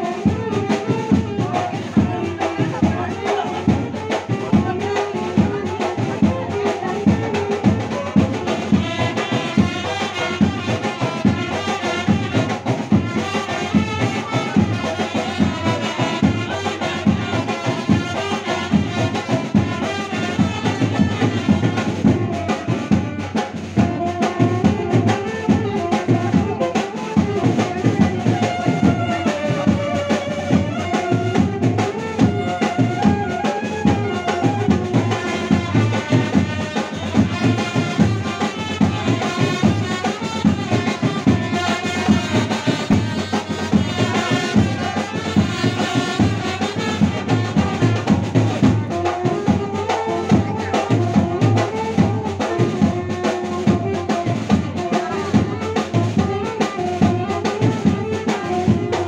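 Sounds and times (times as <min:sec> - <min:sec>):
brass music with drum beat: 0:00.0 - 0:59.0.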